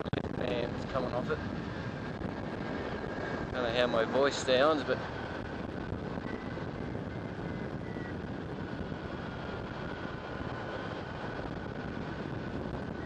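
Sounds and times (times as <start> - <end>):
wind rushing past helmet: 0.0 - 13.0.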